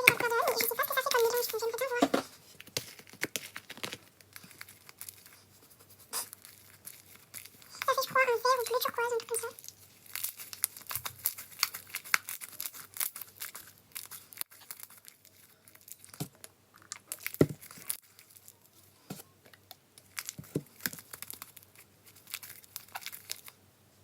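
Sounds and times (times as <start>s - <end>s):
slime crackling by hand: 0.0s - 18.8s, 20.0s - 23.6s.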